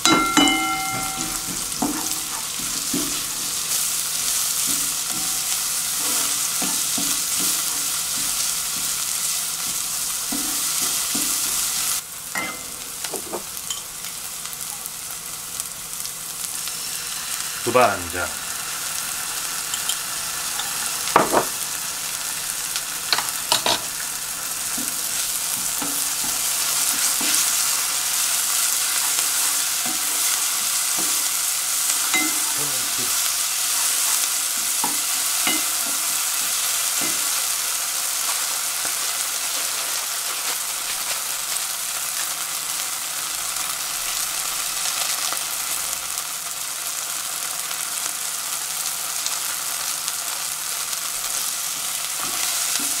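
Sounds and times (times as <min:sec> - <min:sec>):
frying hiss: 0:00.0 - 0:53.0.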